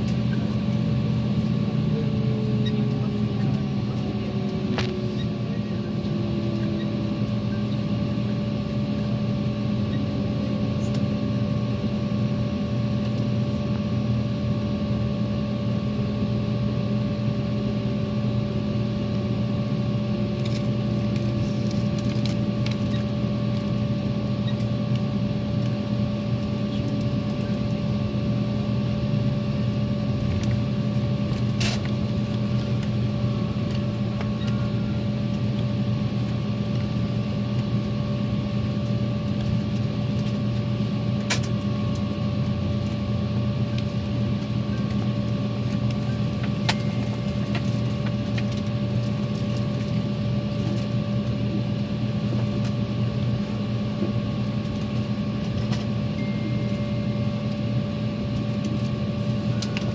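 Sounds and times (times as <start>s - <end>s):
airliner engines droning: 0.0s - 59.9s.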